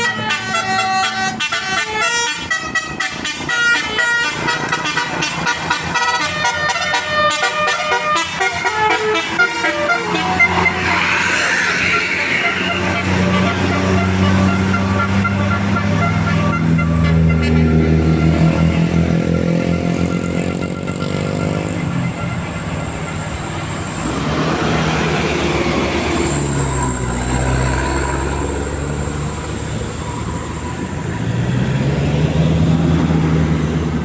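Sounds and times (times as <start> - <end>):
bus multi-tone musical horn: 0.0 - 31.4
bus engine running: 0.0 - 34.0.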